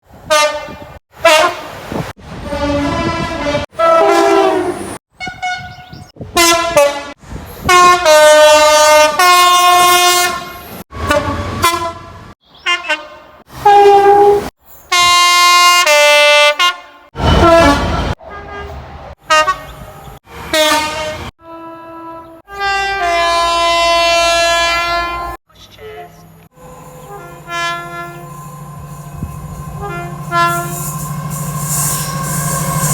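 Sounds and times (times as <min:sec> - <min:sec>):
locomotive horn blasts: 0:00.2 - 0:25.4, 0:26.5 - 0:32.9.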